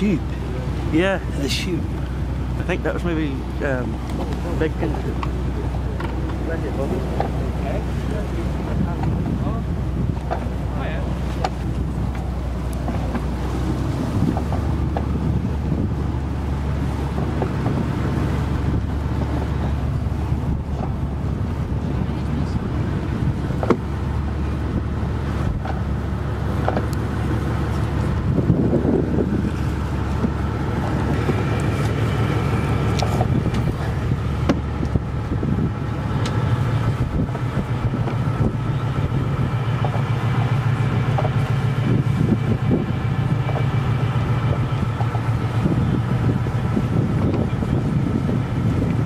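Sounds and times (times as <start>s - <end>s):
boat engine droning: 0.0s - 49.0s
wind buffeting microphone: 0.0s - 49.0s.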